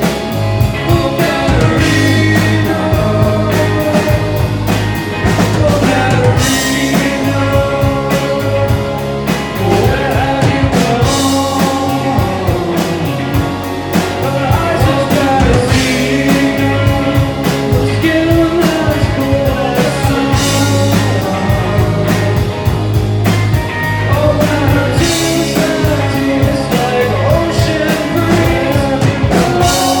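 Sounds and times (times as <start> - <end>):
rock band playing: 0.0 - 30.0.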